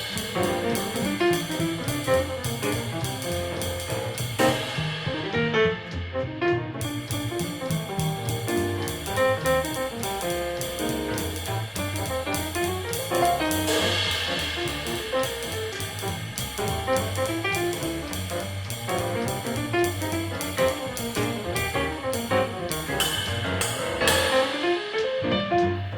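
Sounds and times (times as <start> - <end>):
ride cymbal struck: 0.0 - 4.8, 6.8 - 24.8
bass notes: 0.0 - 25.9
jazz drum kit: 0.0 - 25.9
piano notes: 0.0 - 25.9.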